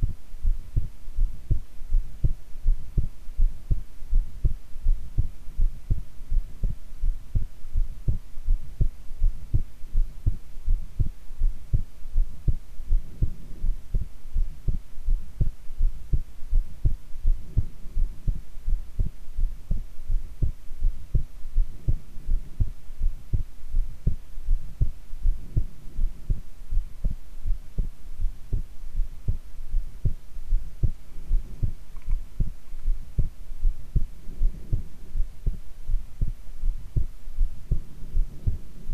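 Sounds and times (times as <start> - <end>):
faint steady hum: 0.0 - 38.9
heartbeat thumps: 0.0 - 38.9.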